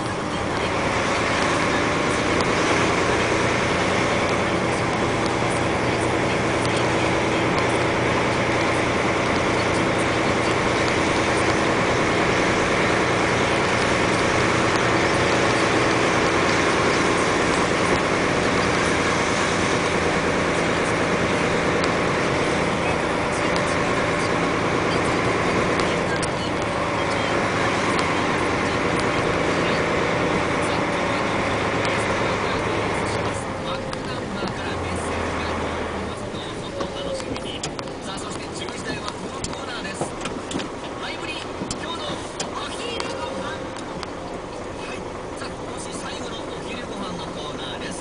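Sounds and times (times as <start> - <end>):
truck engine running: 0.0 - 48.0
tyre and road noise: 0.0 - 48.0.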